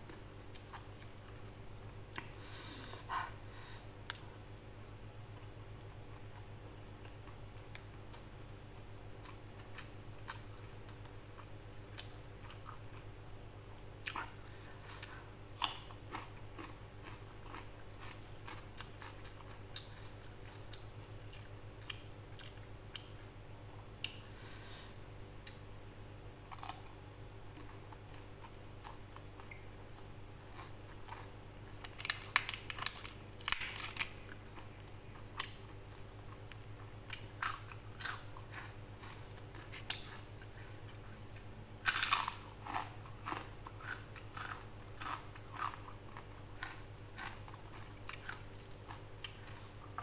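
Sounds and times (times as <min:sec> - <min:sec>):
person chewing crunchy food: 0:00.0 - 0:01.4, 0:05.4 - 0:13.2, 0:14.0 - 0:23.2, 0:26.5 - 0:50.0
steady low hum: 0:00.0 - 0:50.0.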